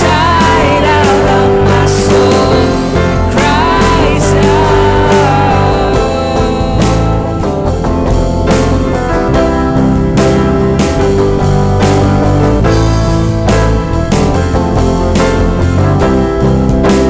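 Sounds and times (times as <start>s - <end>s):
bass guitar: 0.0s - 17.0s
drum kit and cymbals: 0.0s - 17.0s
electric guitar: 0.0s - 17.0s
piano: 0.0s - 17.0s.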